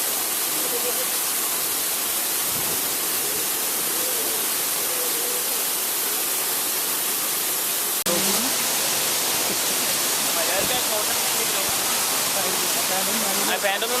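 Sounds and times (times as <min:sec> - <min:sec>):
falling water rushing: 0:00.0 - 0:14.0.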